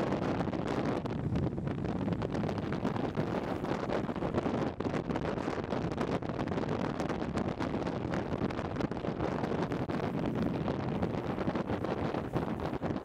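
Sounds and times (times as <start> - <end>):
skateboard wheels rolling on asphalt: 0.0 - 13.0
wind buffeting microphone: 0.0 - 13.0.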